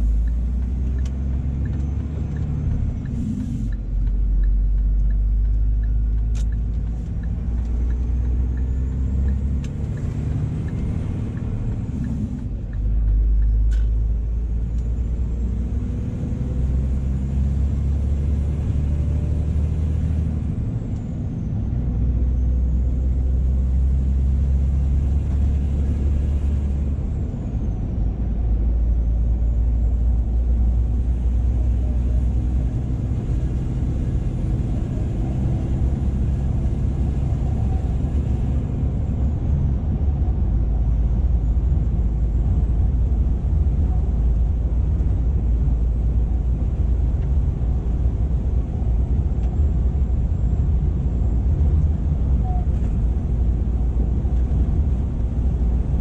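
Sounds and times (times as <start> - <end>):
truck engine and tyre drone: 0.0 - 56.0.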